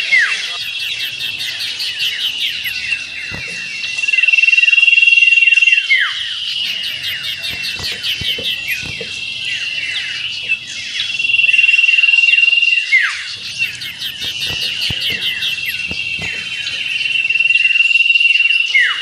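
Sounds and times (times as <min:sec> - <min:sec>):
bird whistling and trilling: 0:00.2 - 0:19.0.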